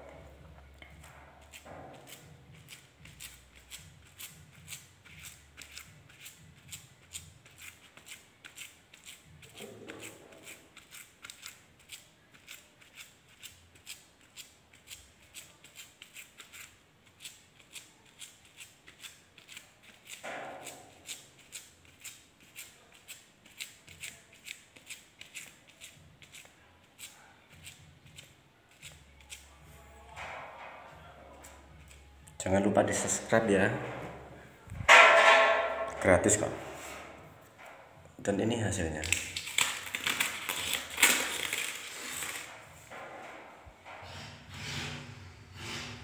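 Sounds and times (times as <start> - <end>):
sponge dabbing paint on wall: 0.0 - 37.8.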